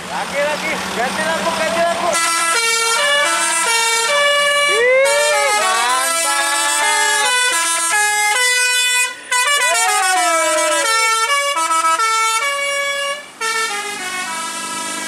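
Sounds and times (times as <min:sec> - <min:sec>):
bus horn playing melody: 0:02.1 - 0:15.0.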